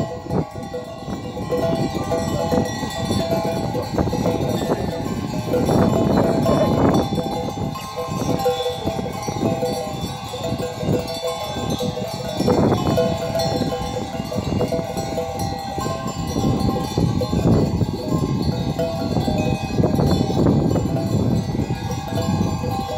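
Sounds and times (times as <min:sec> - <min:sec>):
sheep bells clinking: 0:00.0 - 0:22.9.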